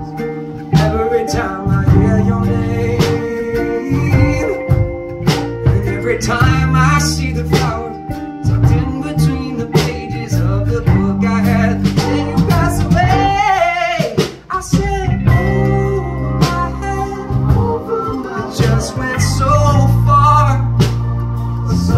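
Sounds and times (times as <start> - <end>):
man singing: 0.0 - 21.0, 21.6 - 21.9
bass line: 0.0 - 21.9
keyboard: 0.0 - 21.9
drum beat: 0.8 - 9.1, 10.9 - 15.8, 16.4 - 21.9.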